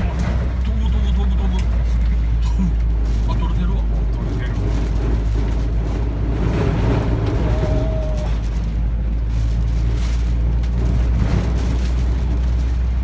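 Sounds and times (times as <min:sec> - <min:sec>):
wind buffeting a car: 0:00.0 - 0:13.0.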